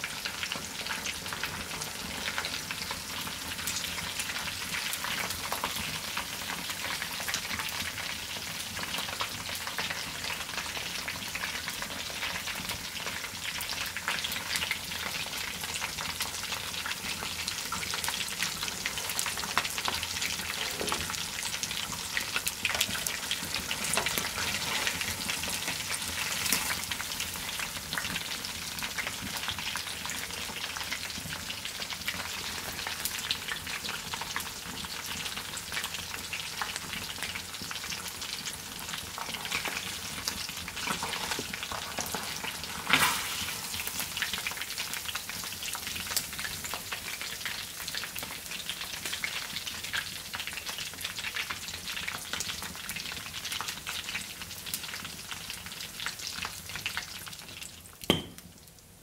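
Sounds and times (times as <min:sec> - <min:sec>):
hot fat sizzling and popping: 0:00.0 - 0:59.0.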